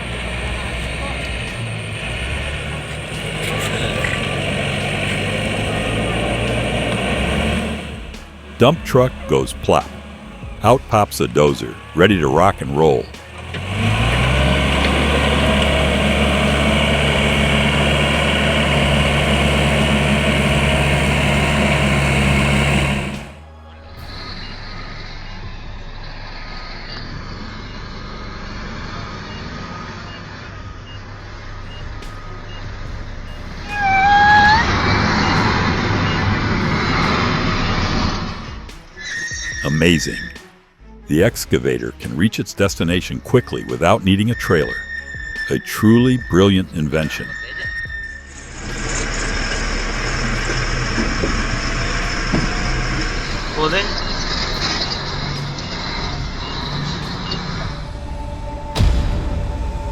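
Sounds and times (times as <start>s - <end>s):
engine drone with hiss: 0.0s - 40.5s, 43.2s - 59.9s.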